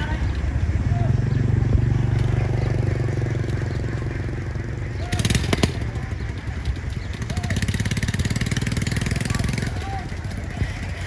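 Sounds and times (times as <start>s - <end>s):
vehicle engine droning: 0.0s - 11.0s
metallic rattle: 1.9s - 11.0s.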